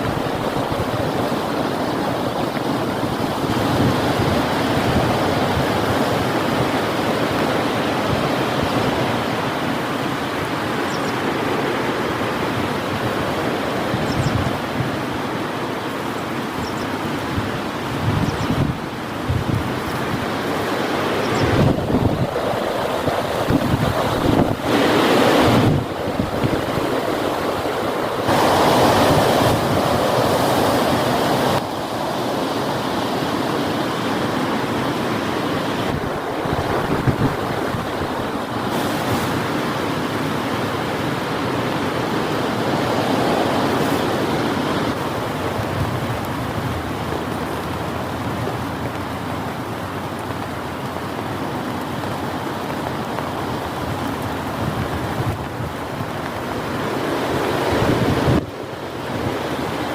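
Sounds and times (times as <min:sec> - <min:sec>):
gusting wind: 0:00.0 - 0:59.9
heavy rain: 0:00.0 - 0:59.9.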